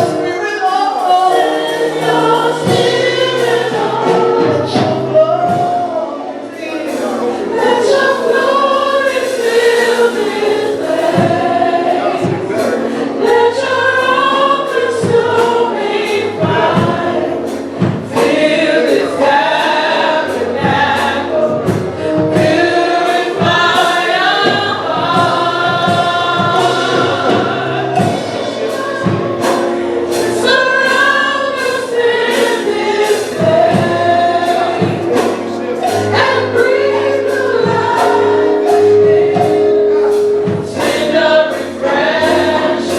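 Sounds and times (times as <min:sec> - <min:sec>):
band accompaniment: 0:00.0 - 0:42.9
gospel choir singing: 0:00.0 - 0:42.9
percussion hits: 0:07.0 - 0:42.9.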